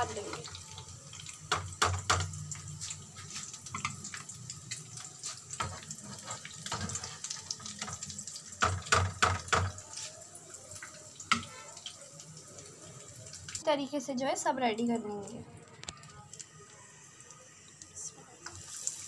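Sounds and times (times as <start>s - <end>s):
oil sizzling and crackling: 0.0s - 19.0s.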